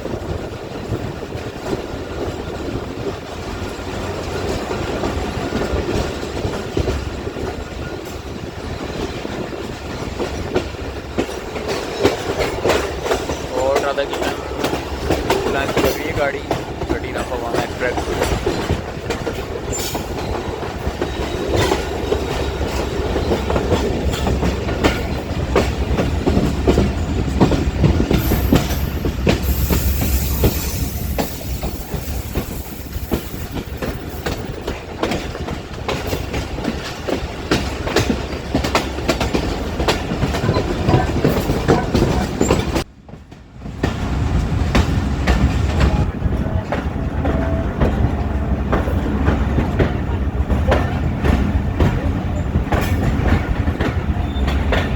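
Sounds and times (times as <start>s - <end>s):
train wheels clattering: 0.0s - 54.9s.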